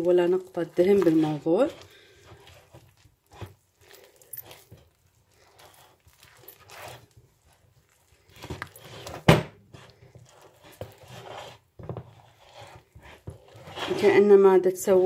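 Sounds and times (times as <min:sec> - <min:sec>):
dough squishing: 0:00.0 - 0:15.0.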